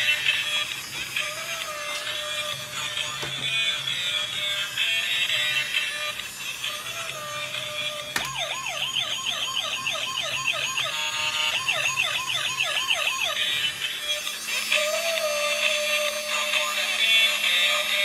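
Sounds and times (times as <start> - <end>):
toy electronic siren wailing: 0.0 - 18.0.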